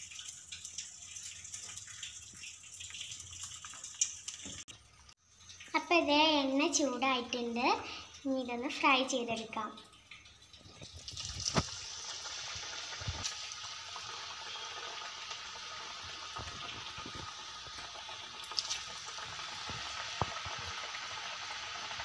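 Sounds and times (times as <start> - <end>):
batter sizzling in hot oil: 0.0 - 22.0
oil popping and crackling: 0.0 - 22.0.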